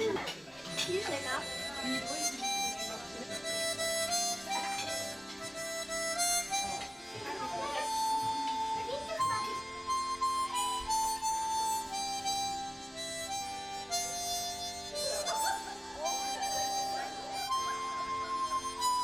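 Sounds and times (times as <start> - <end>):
free-reed instrument melody: 0.0 - 19.0.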